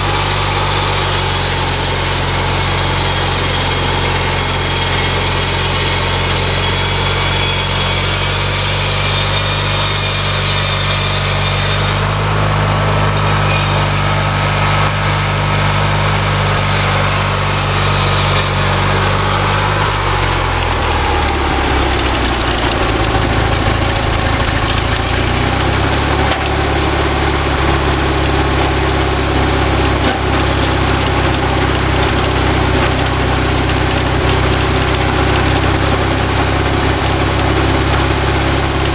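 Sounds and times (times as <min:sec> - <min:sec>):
small engine drone: 0:00.0 - 0:38.9.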